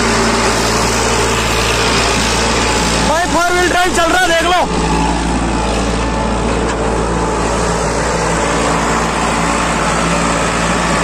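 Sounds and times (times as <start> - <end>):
rotavator churning dry soil: 0.0 - 11.0
tractor diesel engine running: 0.0 - 11.0.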